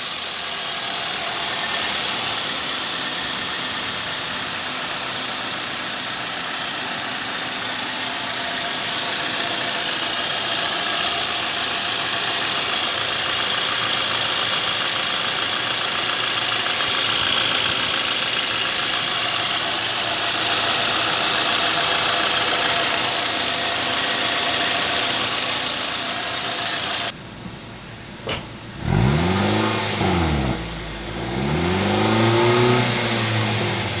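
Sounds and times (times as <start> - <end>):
car engine revving: 0.0 - 27.2, 28.7 - 34.0
car engine running with hiss: 0.0 - 34.0.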